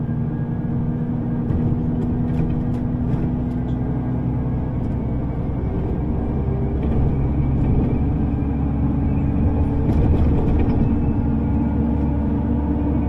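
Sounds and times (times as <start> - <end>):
underground train rumble: 0.0 - 13.0.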